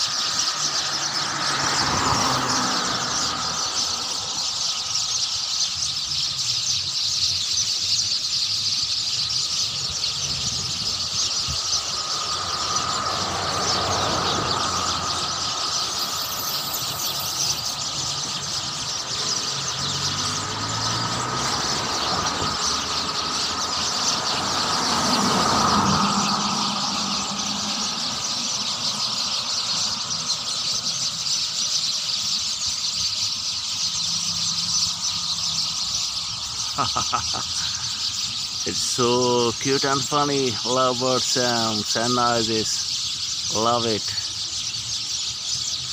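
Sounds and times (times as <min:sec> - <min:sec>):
flock of small birds chirping: 0:00.0 - 0:45.9.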